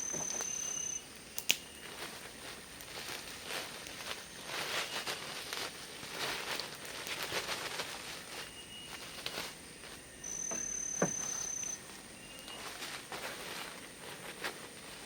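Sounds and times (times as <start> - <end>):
high insect drone: 0.0 - 6.8, 7.4 - 15.0
rustling and footsteps on forest ground: 0.0 - 15.0.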